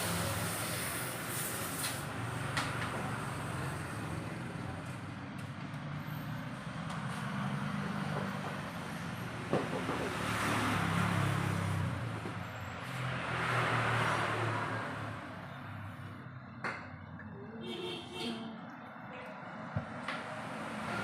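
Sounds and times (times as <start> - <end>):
vehicle engine noise: 0.0 - 21.0.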